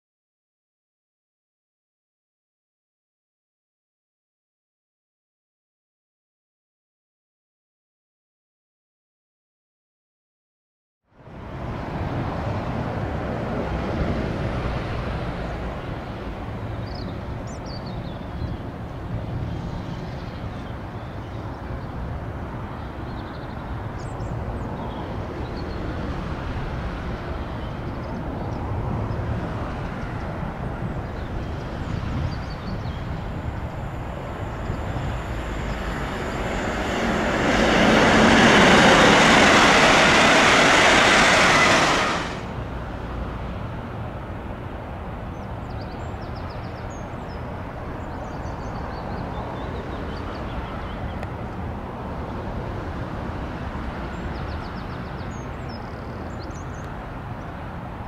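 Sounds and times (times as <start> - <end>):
train passing at speed: 11.2 - 58.0.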